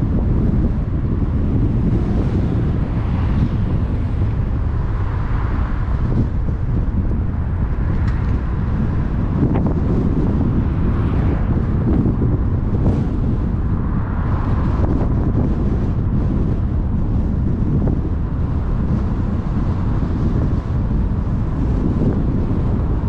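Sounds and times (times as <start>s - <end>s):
vehicle travel noise: 0.0s - 23.0s
wind buffeting microphone: 0.0s - 23.0s.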